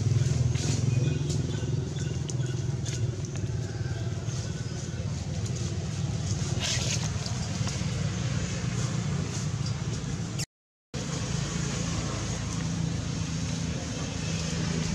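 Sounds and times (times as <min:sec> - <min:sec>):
engine humming: 0:00.0 - 0:10.4, 0:11.0 - 0:14.9.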